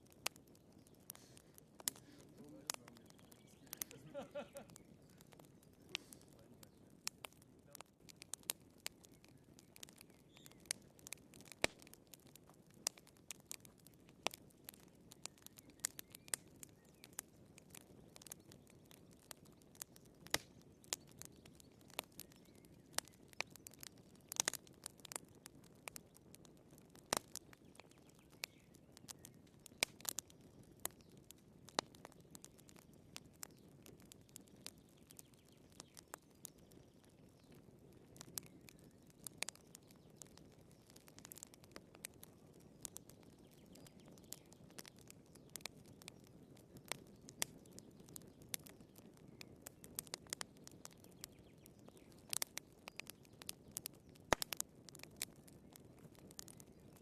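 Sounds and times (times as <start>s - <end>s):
low hiss of flames: 0.0s - 57.0s
wood fire crackling: 0.0s - 57.0s.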